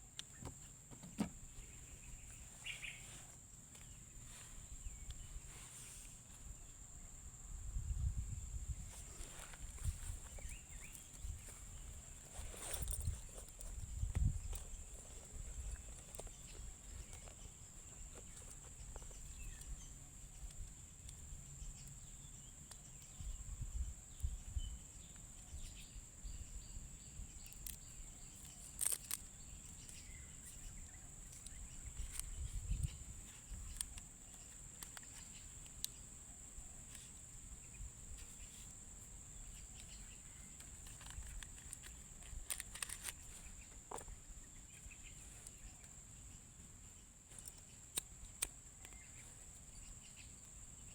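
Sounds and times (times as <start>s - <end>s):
faint bird chirps: 0.0s - 48.0s, 48.7s - 50.9s.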